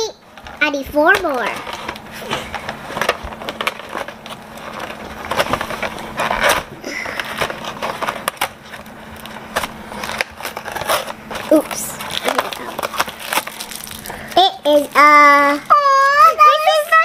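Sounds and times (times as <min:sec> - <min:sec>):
cardboard tearing and crackling: 0:01.1 - 0:16.8.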